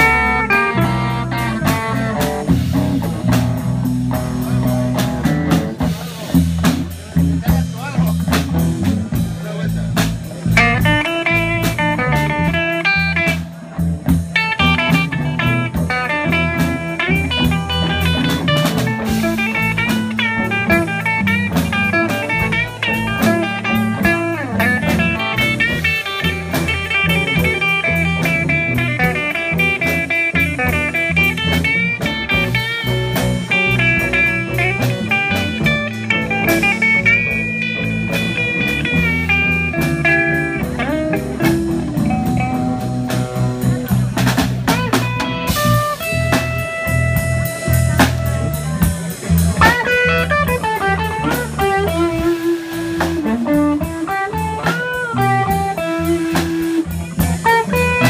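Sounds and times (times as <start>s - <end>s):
drum kit: 0.0s - 58.0s
electric guitar solo: 0.0s - 58.0s.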